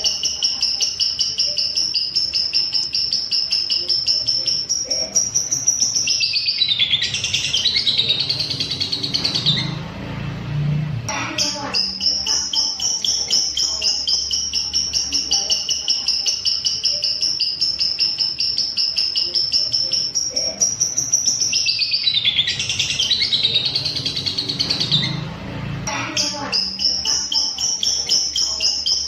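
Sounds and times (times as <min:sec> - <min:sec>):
bird singing rapid trill: 0:00.0 - 0:10.0, 0:11.1 - 0:29.0.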